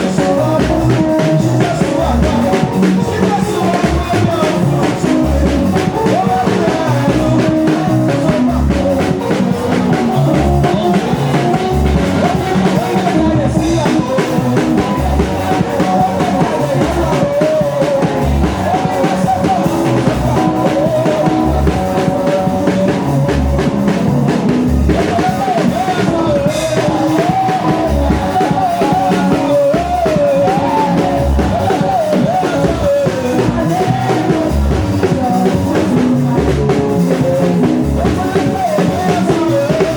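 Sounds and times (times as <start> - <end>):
band music: 0.0 - 39.9
bass drum beat: 0.0 - 39.9.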